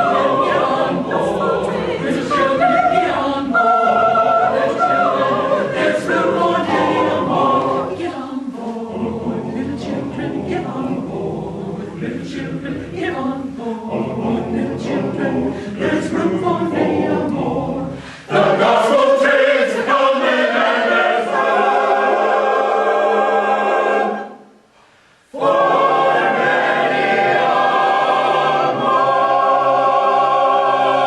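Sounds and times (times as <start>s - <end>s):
choir singing a cappella: 0.0s - 24.7s, 25.3s - 31.0s.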